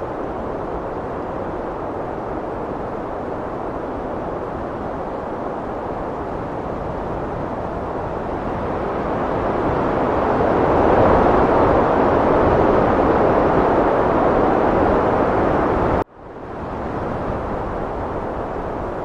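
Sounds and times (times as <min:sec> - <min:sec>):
heavy wind roaring: 0:00.0 - 0:19.0.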